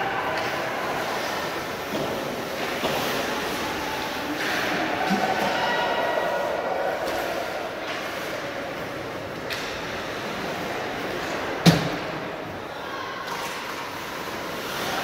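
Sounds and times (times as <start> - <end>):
basketball court and crowd din: 0.0 - 13.8.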